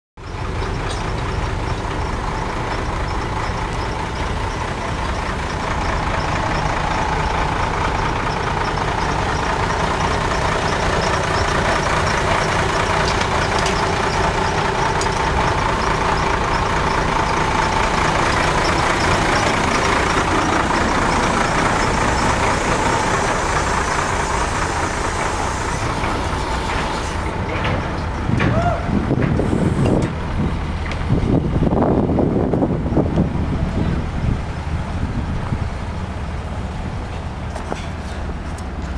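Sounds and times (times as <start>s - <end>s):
heavy machinery engine running: 0.2s - 38.9s.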